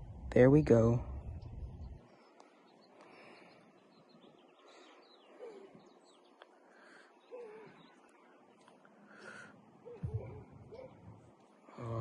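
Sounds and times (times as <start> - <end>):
birds chirping: 0.0 - 12.0
faint outdoor background noise: 0.0 - 12.0.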